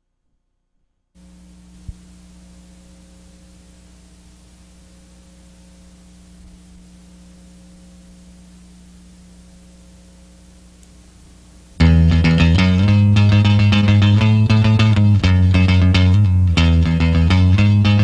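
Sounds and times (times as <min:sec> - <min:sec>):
electrical hum: 0:00.7 - 0:18.0
tape hiss: 0:01.2 - 0:18.0.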